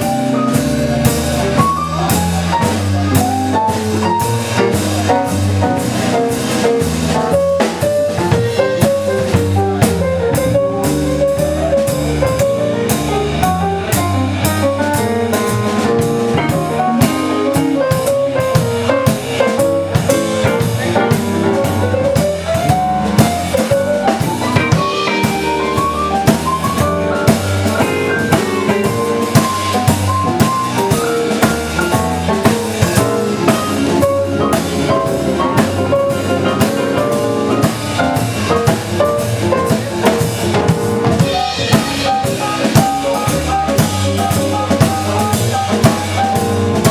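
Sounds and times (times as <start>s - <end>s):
band playing instrumental: 0.0s - 46.9s
drum kit with rimshots: 0.0s - 46.9s.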